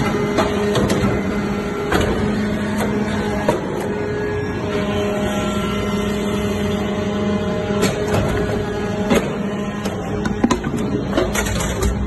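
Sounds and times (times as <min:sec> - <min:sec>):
hydraulic press droning: 0:00.0 - 0:12.0.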